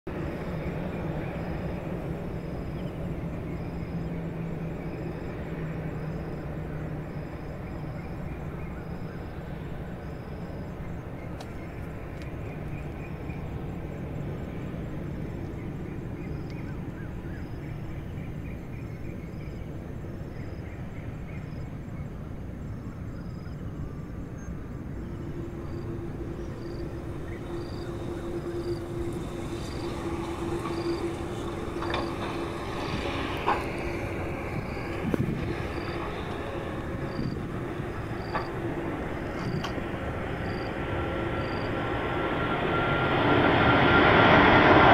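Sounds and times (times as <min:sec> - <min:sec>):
distant jet engines rumbling: 0:00.1 - 0:44.9
steady hum: 0:00.1 - 0:44.9.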